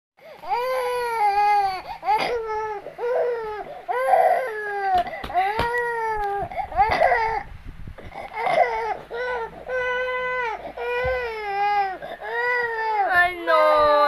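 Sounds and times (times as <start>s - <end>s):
infant crying: 0.4s - 7.5s, 8.1s - 14.0s.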